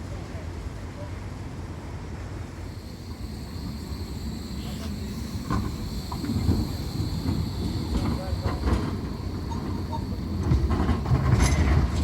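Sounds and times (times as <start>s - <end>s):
tram rumble and whine: 1.6s - 12.0s.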